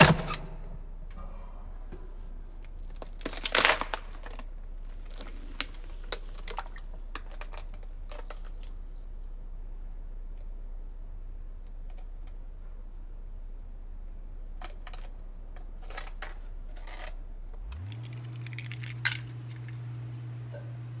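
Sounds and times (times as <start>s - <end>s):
deep slowed-down hum: 0.0s - 21.0s.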